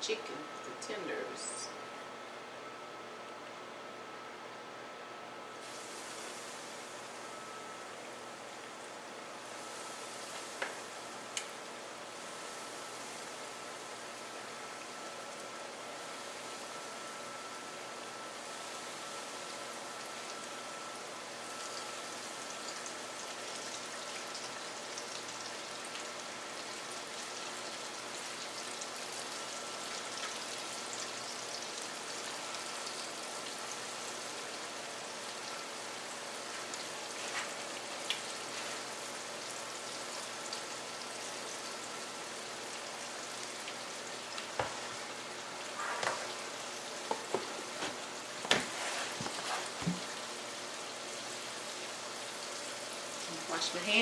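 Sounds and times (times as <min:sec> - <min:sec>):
chicken sizzling in a skillet: 0:05.6 - 0:54.0.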